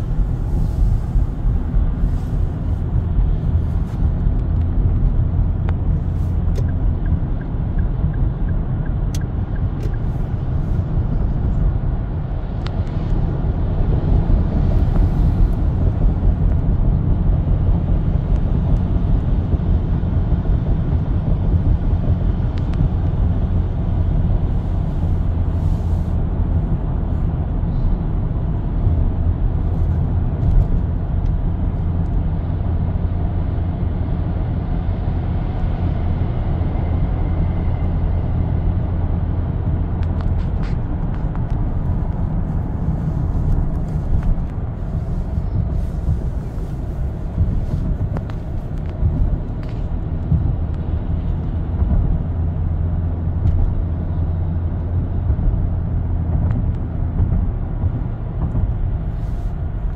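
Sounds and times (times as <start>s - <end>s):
tyre and engine rumble: 0.0s - 59.9s.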